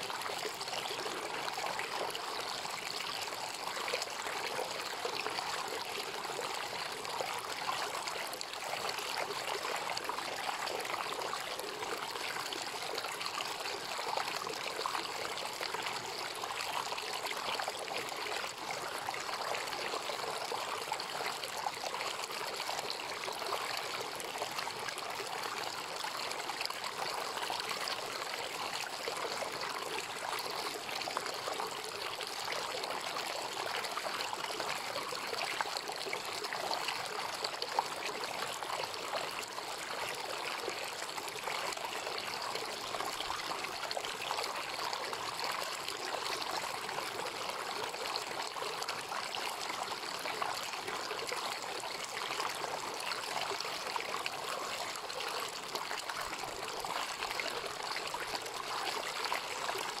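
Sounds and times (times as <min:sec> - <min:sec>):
stream babbling over rocks: 0:00.0 - 1:00.0.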